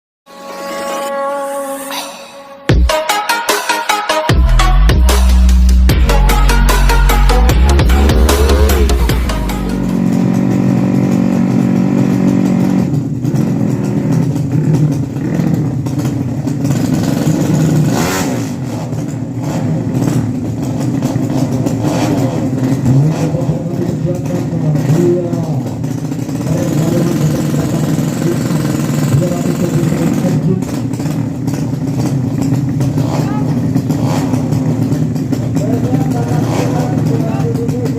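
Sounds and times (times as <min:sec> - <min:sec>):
motorcycle engine revving: 0:04.3 - 0:37.9.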